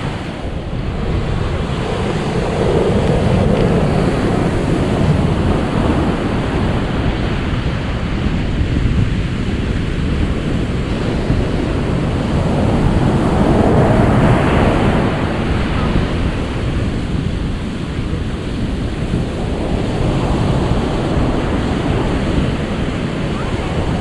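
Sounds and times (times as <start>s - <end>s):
ocean waves washing: 0.0s - 24.0s
wave breaking: 0.0s - 24.0s.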